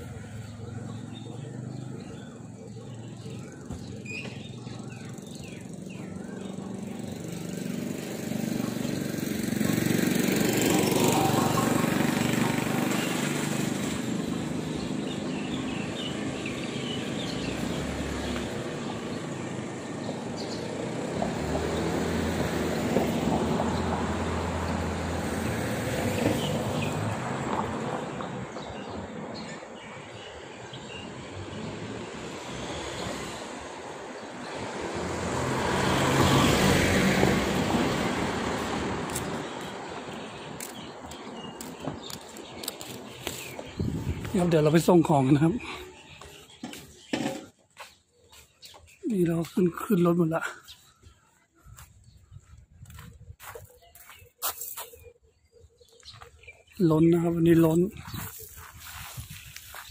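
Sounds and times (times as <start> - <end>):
road traffic: 0.0 - 59.9
vehicles passing: 0.0 - 59.9.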